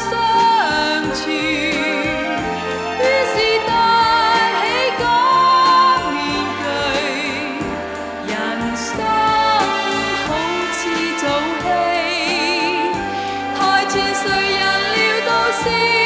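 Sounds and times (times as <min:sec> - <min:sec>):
tv theme music with wavering notes: 0:00.0 - 0:16.0.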